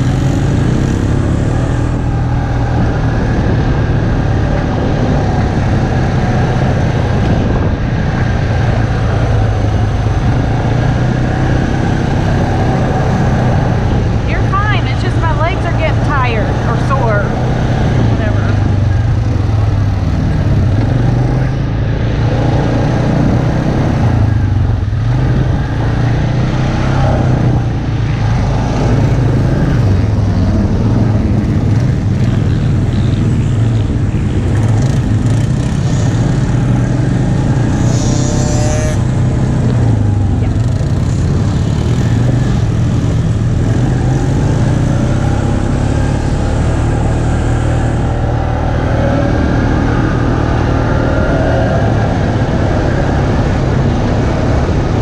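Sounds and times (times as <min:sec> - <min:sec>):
atv engine droning: 0:00.0 - 0:55.0
wind noise: 0:00.0 - 0:55.0.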